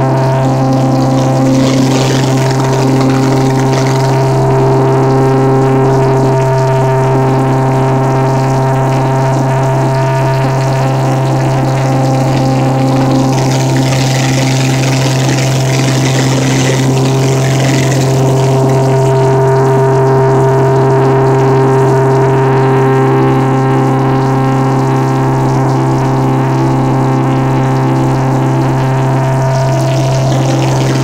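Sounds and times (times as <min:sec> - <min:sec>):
propeller plane cabin drone: 0:00.0 - 0:31.0.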